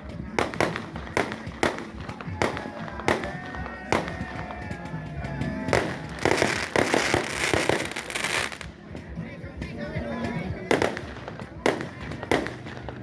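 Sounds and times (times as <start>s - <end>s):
fireworks bangs: 0.0s - 13.0s
fireworks crackling: 0.0s - 13.0s
music: 0.0s - 13.0s.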